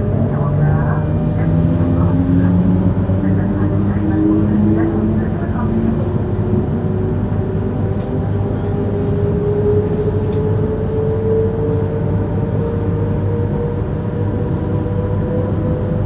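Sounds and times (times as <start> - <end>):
electric train motor hum: 0.0 - 16.0.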